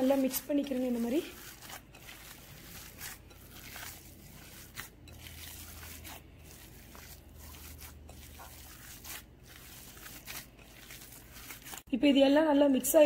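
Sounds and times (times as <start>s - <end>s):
hands squelching meat mixture: 0.0s - 13.0s.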